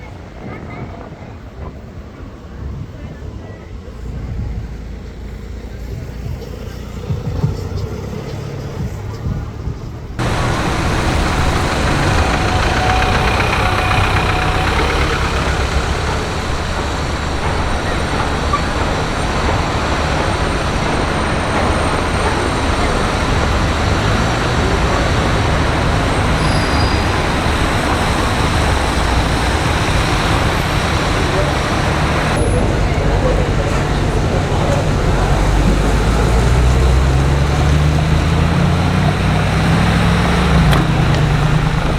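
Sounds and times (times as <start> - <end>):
engine rumble of traffic: 0.0 - 41.9
tyre noise of passing vehicles: 2.5 - 41.9.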